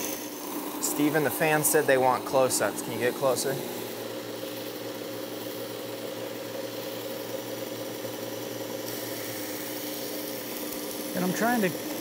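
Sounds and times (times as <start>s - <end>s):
knife sharpener motor hum: 0.0s - 12.0s.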